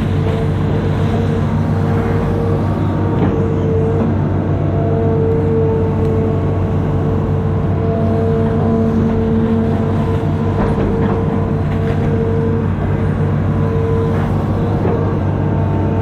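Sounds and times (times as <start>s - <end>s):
diesel engine running under load: 0.0s - 16.0s
steady whine: 0.0s - 16.0s.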